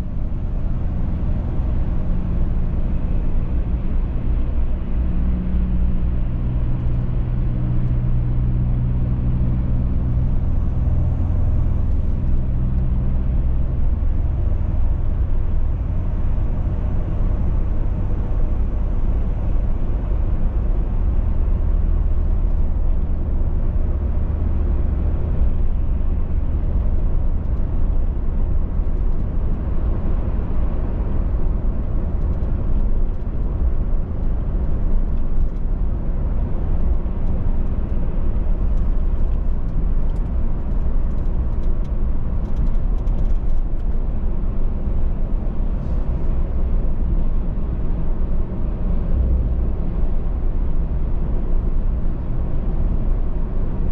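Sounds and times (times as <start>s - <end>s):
car engine hum: 0.0s - 53.9s
tyre and road noise: 0.0s - 53.9s.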